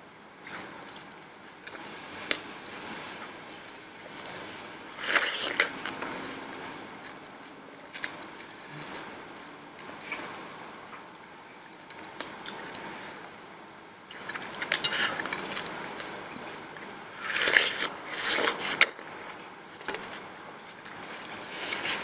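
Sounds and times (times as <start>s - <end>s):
watermelon being chewed: 0.4s - 13.4s, 14.0s - 22.0s.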